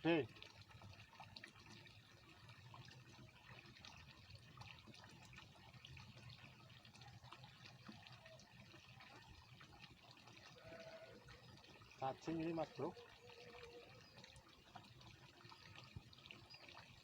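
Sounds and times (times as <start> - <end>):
water trickling in a ditch: 0.0 - 17.0.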